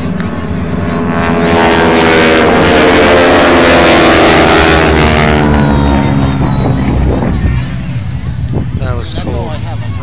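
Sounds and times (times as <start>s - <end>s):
jets passing overhead: 0.0s - 10.0s.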